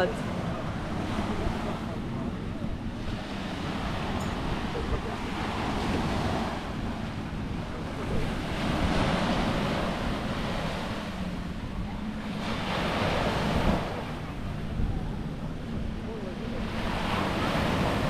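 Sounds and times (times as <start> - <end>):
sea waves washing onto beach: 0.0 - 18.0
wind rumbling on microphone: 0.0 - 18.0.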